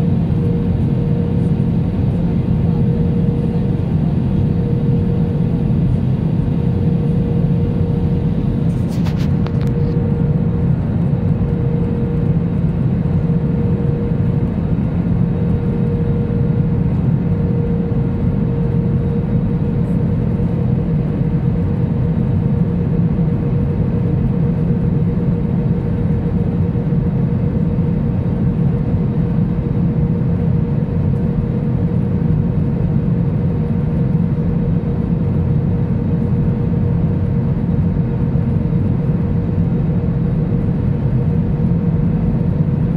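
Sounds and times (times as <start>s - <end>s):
aircraft cabin engine rumble: 0.0s - 42.9s
constant one-note hum: 0.0s - 42.9s.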